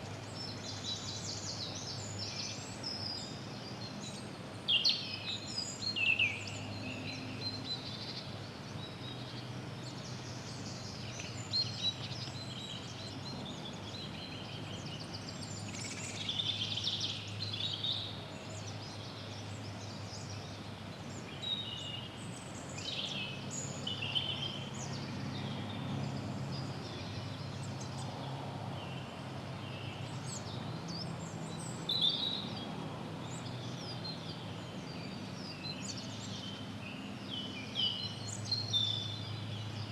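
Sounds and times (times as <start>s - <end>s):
birds chirping and trilling: 0.0s - 28.2s, 28.8s - 39.9s.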